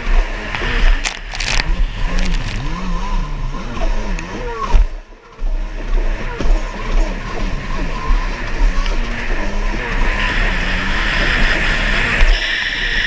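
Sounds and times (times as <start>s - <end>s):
jet ski engine racing: 0.0s - 13.0s.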